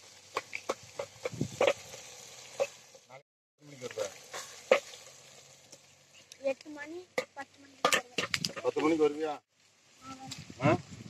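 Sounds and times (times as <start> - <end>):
onions sizzling in a pan: 0.0 - 11.0.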